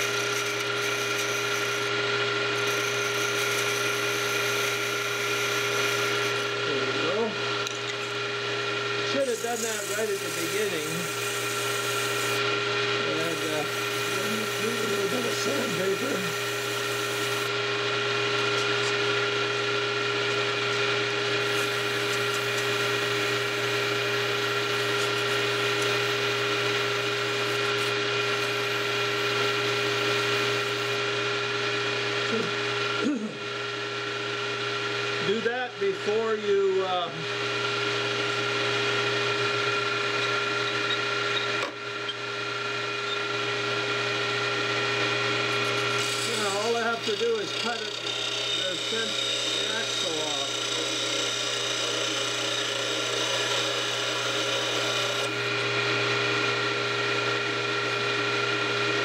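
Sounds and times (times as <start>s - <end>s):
wood lathe humming: 0.0s - 59.0s.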